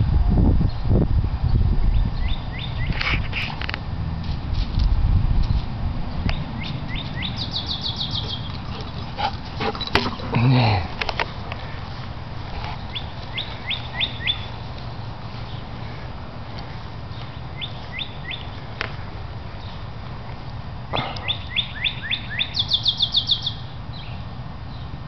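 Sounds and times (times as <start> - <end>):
steady low rumble: 0.0 - 21.6
songbird singing: 0.6 - 3.8, 5.4 - 25.0.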